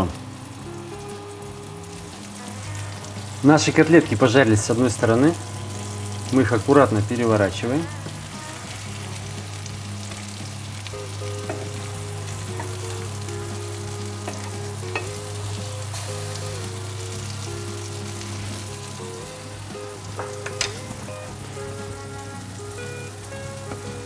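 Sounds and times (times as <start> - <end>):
patties sizzling in oil: 0.0 - 24.0.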